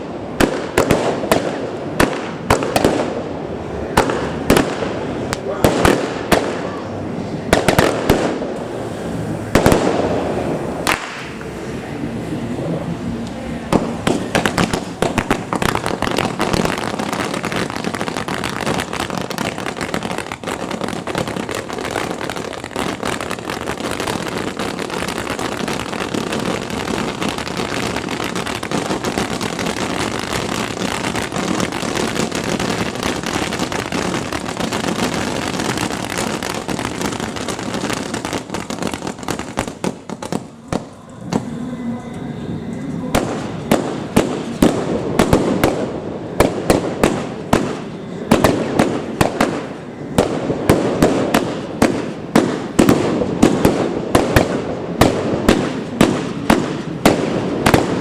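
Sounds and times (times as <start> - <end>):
fireworks banging and crackling: 0.0 - 58.0.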